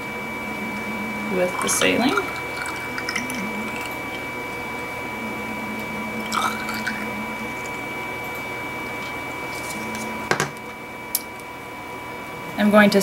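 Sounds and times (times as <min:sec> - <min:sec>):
high-pitched whine: 0:00.0 - 0:12.5.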